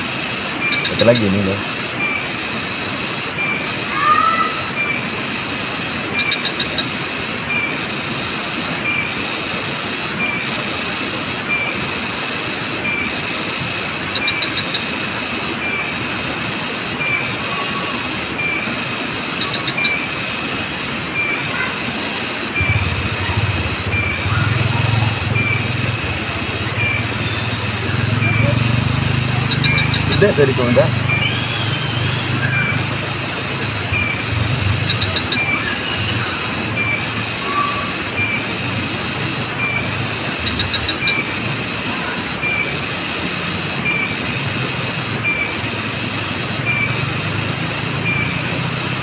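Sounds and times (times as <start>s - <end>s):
insects droning chorus: 0.0s - 49.0s
short insect chirps: 0.1s - 49.0s.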